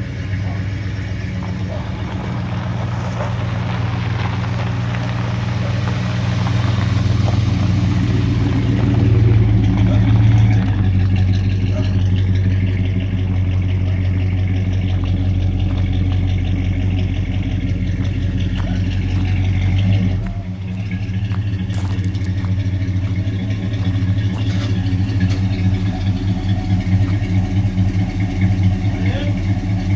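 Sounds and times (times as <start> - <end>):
car engine running slowly: 0.0 - 29.9.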